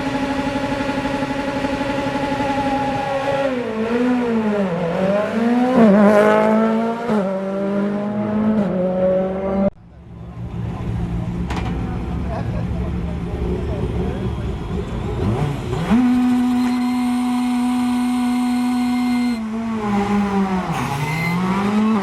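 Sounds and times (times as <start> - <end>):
rally car engine revving: 0.0 - 9.7, 13.5 - 22.0.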